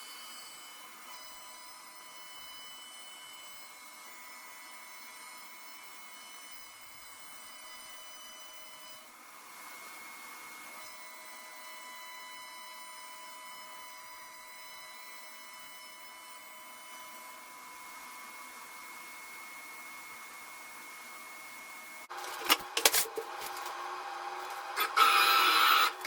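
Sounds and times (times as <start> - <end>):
router spindle whining: 0.0 - 21.3, 22.2 - 26.0.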